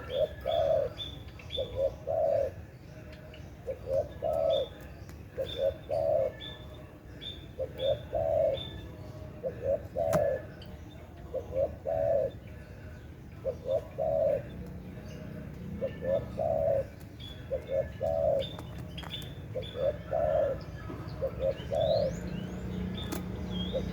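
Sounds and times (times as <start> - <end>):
dove cooing: 0.0 - 2.8, 3.4 - 23.9
small birds chirping: 0.0 - 23.9.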